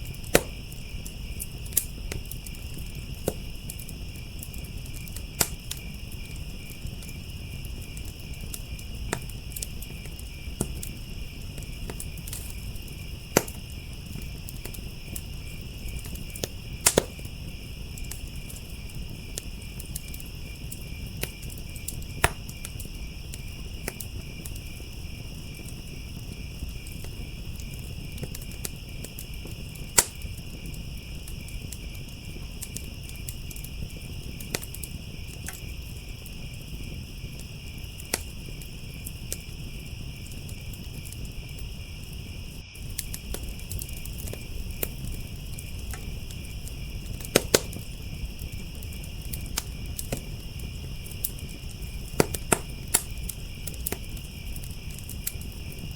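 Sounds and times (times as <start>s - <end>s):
crickets chirping: 0.0s - 55.9s
wood fire crackling and popping: 0.0s - 55.9s.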